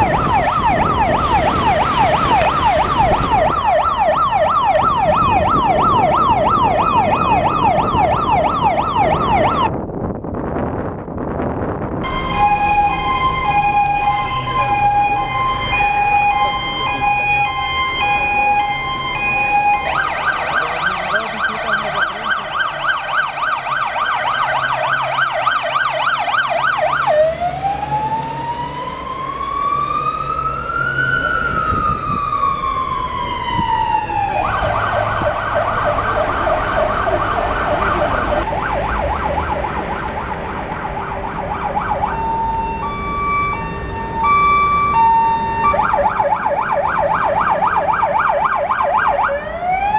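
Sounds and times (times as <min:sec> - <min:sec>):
fire engine siren: 0:00.0 - 0:09.8, 0:12.0 - 0:49.9.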